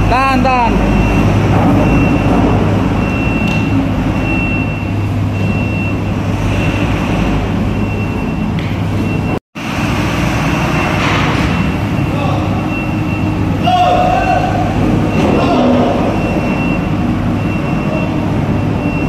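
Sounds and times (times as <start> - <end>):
diesel engines rumbling: 0.0 - 19.0.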